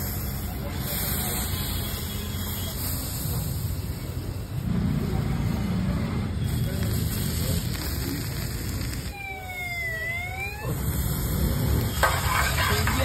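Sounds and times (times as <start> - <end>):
low street noise: 0.0 - 13.0.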